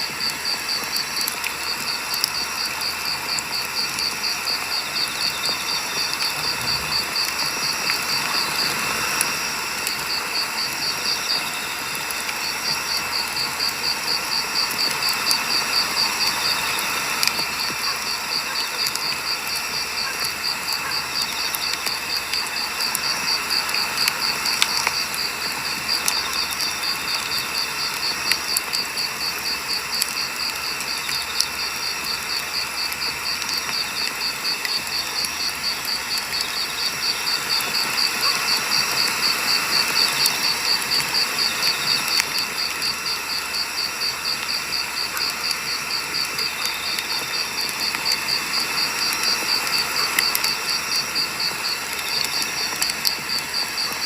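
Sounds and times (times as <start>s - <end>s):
firewood crackling and popping: 0.0s - 54.0s
insects chirping: 0.0s - 54.0s.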